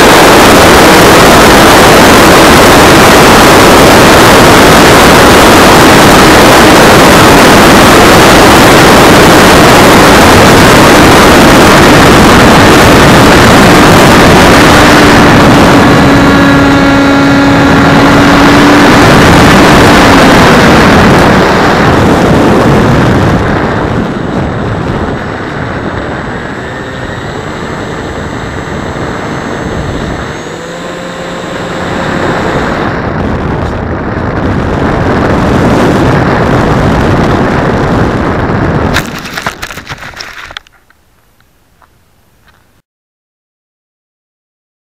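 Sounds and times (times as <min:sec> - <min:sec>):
wind roaring: 0:00.0 - 0:41.8
electric motor and propeller hum: 0:00.0 - 0:42.7.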